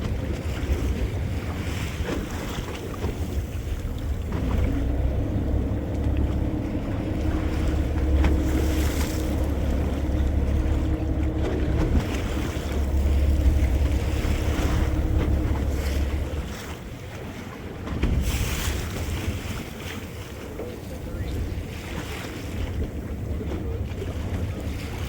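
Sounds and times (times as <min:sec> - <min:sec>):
boat engine rumbling: 0:00.0 - 0:25.0
water washing: 0:00.0 - 0:25.0.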